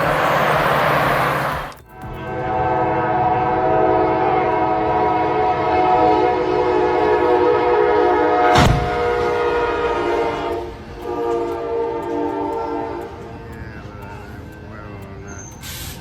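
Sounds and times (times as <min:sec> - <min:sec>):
train horn chord: 0:00.0 - 0:14.8
rushing noise: 0:00.0 - 0:16.0.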